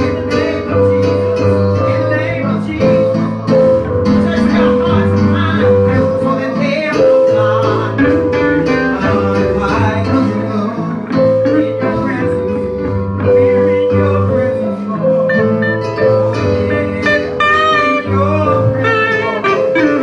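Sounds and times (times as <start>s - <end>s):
bass line: 0.0s - 20.0s
church band playing: 0.0s - 20.0s
guitar: 0.0s - 20.0s.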